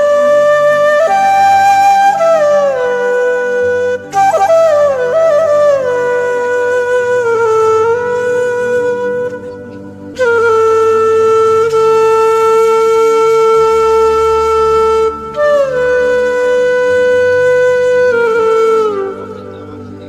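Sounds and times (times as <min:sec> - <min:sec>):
flute-like sustained notes: 0:00.0 - 0:20.0.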